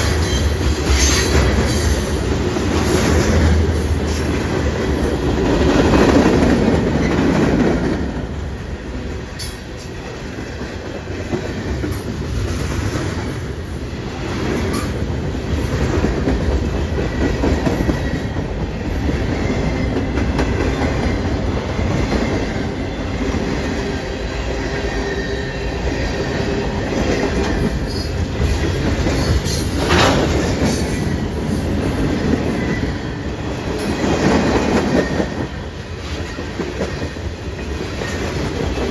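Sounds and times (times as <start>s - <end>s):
train rolling past: 0.0s - 38.9s
wheels squealing on rails: 0.0s - 38.9s.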